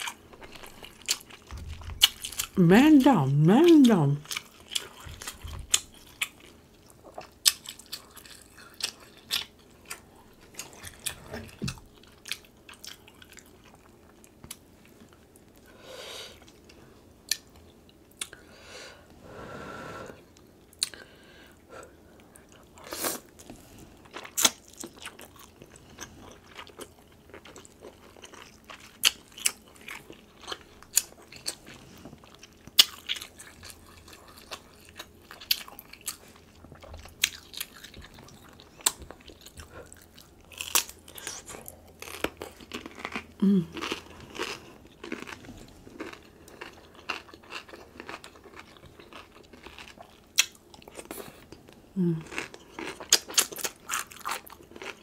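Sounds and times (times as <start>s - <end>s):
chewing and biting: 0.0s - 2.6s, 4.2s - 15.6s, 22.2s - 55.0s.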